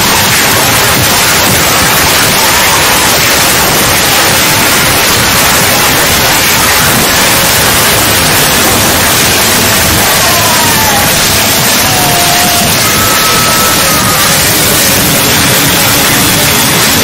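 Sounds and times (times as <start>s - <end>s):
loud static hiss: 0.0s - 17.0s.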